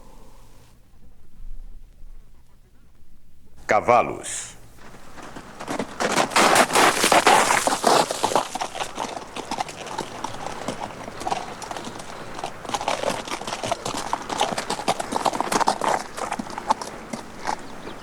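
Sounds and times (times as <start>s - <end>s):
horse hooves clip-clopping: 0.8s - 18.0s.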